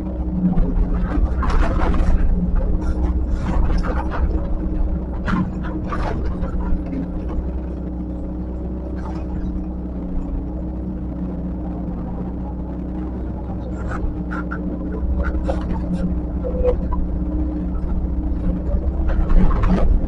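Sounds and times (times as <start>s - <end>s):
earthmoving machine engine running: 0.0s - 20.0s.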